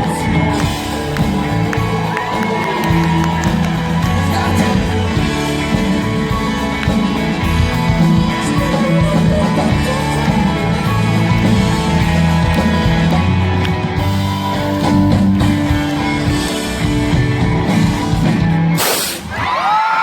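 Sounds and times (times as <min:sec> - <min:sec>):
live rock band playing: 0:00.0 - 0:19.5.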